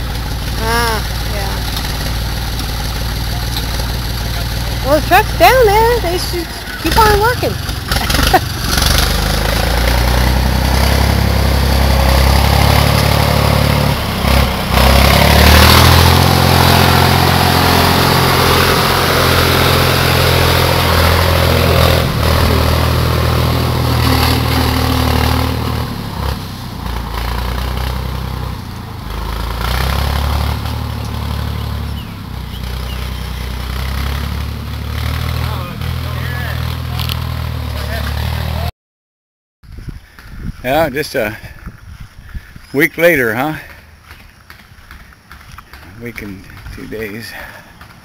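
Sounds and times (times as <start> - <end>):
tractor engine running under load: 0.0 - 38.6, 43.4 - 48.0.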